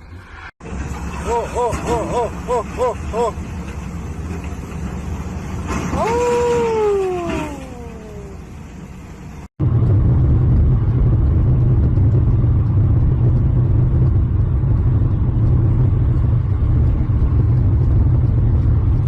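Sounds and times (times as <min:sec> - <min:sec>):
vehicle rumble: 0:00.0 - 0:19.0.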